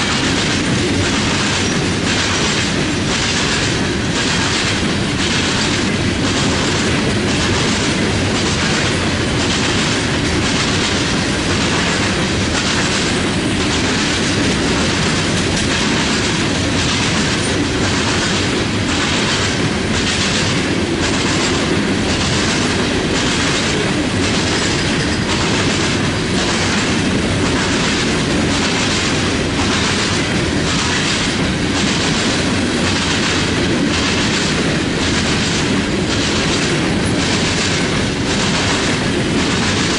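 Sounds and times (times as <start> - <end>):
train rumble: 0.0 - 39.9
wheels clicking over rail joints: 0.0 - 39.9.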